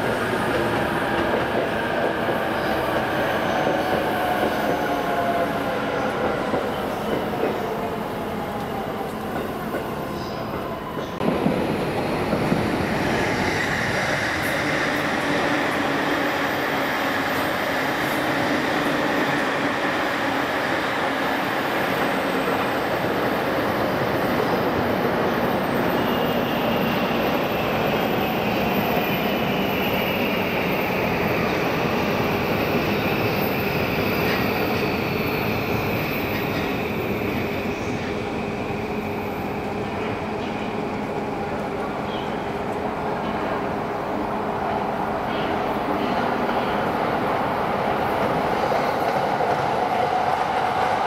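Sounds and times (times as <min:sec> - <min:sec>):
high train whine: 0:00.0 - 0:51.0
train wheels rumbling on rails: 0:00.0 - 0:51.0.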